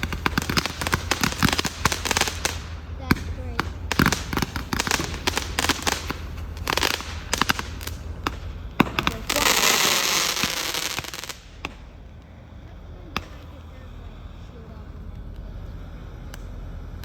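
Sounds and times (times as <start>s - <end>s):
dense crackling hiss: 0.0s - 17.0s
fireworks popping and crackling: 0.0s - 17.0s.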